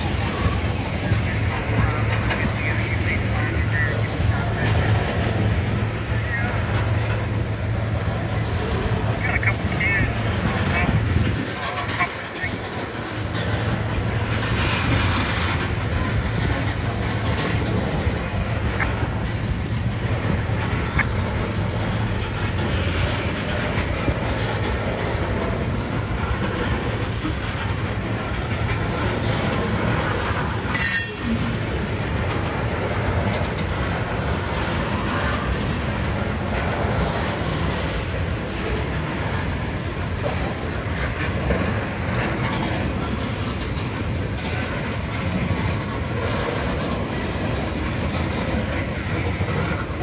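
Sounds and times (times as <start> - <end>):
train wheels rumbling on rails: 0.0 - 50.0
wheels clickety-clack over rail joints: 0.0 - 50.0.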